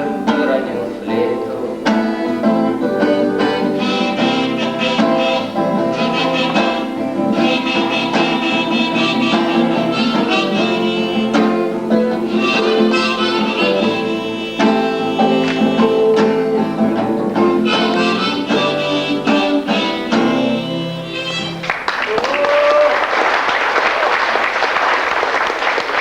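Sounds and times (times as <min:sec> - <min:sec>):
sustained reed melody: 0:00.0 - 0:21.6
strummed acoustic guitar: 0:00.0 - 0:21.7.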